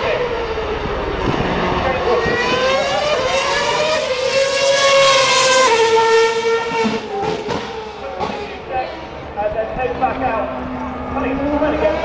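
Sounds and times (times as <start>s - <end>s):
race car engine passing by: 0.0s - 12.0s.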